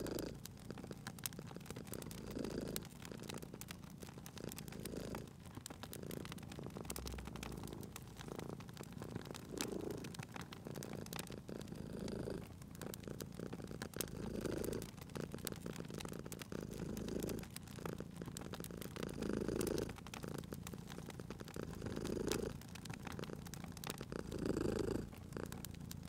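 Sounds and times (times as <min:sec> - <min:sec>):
cat purring: 0:00.0 - 0:26.0
wood fire crackling: 0:00.0 - 0:26.0.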